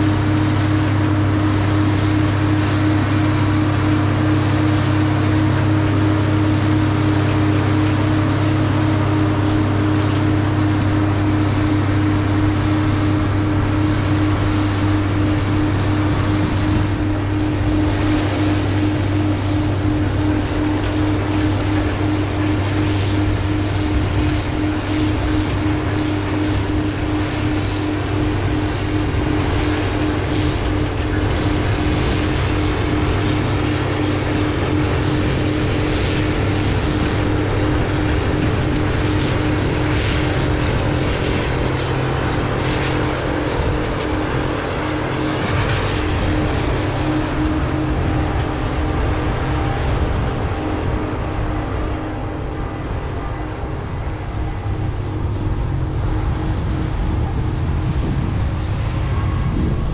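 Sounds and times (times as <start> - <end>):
machine humming: 0.0 - 59.9
wind hiss: 0.0 - 59.9.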